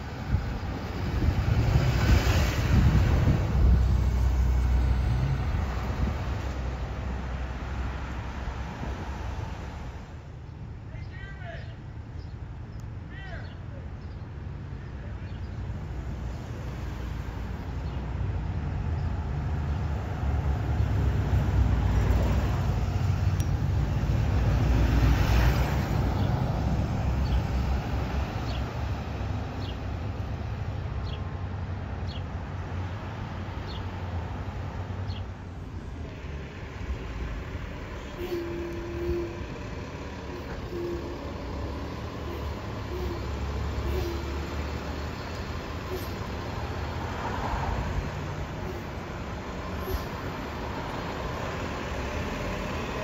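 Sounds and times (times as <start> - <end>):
bus diesel engine: 0.0 - 53.0
road noise: 0.0 - 53.0.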